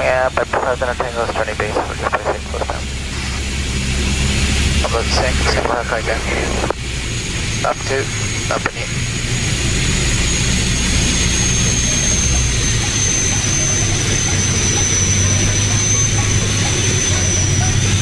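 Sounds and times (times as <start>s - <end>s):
aircraft engine and propeller drone: 0.0s - 18.0s.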